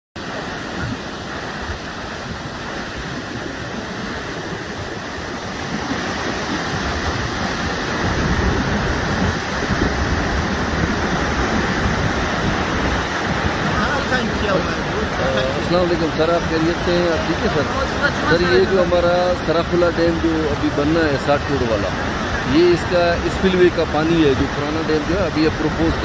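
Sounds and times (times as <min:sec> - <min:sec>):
floodwater rushing: 0:00.2 - 0:26.0.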